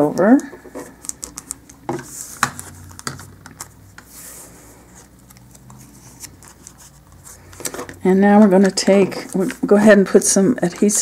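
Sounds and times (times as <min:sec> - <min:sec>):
paper rustling: 0:00.7 - 0:11.0.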